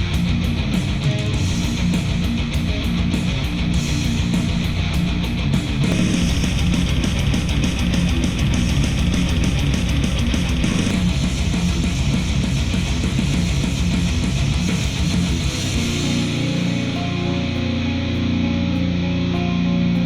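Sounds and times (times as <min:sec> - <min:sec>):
rock music through speakers: 0:00.0 - 0:20.0.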